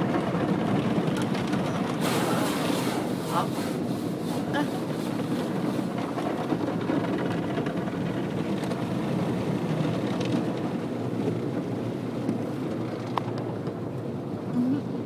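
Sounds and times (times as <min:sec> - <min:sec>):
car wash water spray churning: 0:00.0 - 0:15.0.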